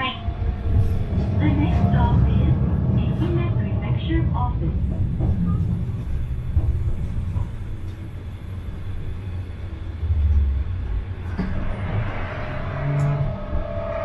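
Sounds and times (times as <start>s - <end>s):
streetcar motors and wheels rumbling: 0.0s - 14.0s.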